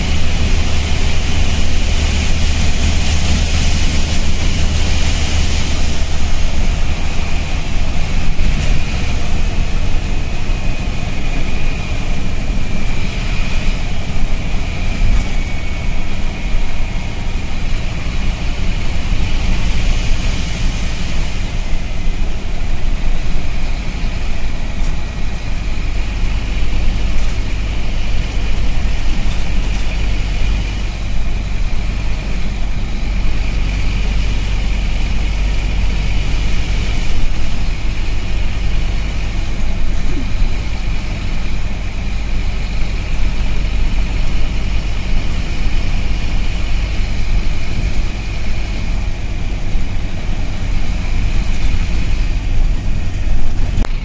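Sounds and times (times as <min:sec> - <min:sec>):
bus diesel engine: 0:00.0 - 0:54.0
road rumble: 0:00.0 - 0:54.0.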